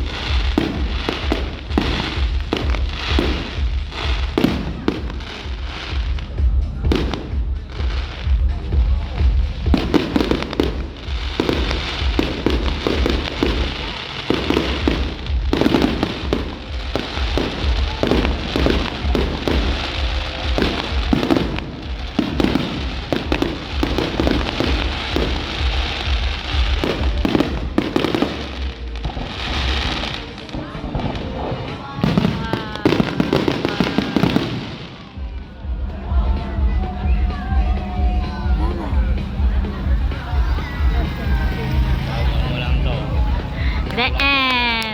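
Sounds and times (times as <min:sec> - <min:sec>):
fireworks bangs and crackles: 0:00.0 - 0:44.9
music playing: 0:00.0 - 0:44.9.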